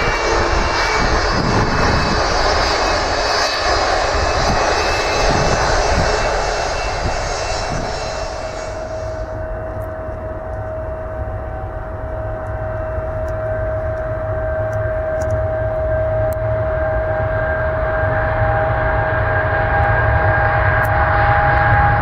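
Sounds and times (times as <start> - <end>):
jet engines whining and rumbling: 0.0 - 22.0.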